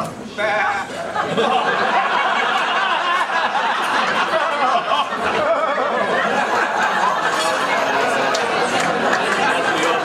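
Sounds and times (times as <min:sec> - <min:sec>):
crowd talking: 0:00.0 - 0:10.0
people laughing: 0:00.9 - 0:10.0.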